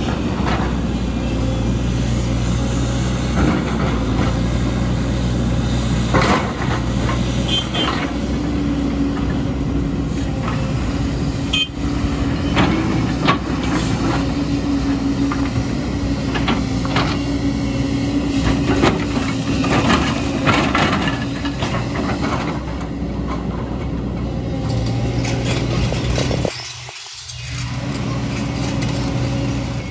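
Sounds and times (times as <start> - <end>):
diesel machinery running: 0.0 - 29.9.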